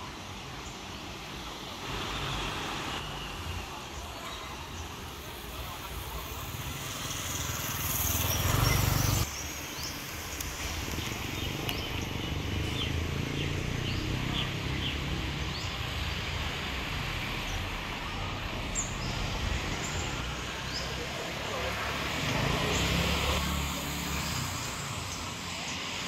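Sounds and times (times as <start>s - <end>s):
rush of noise: 0.0s - 26.0s
traffic rumble: 0.0s - 26.0s.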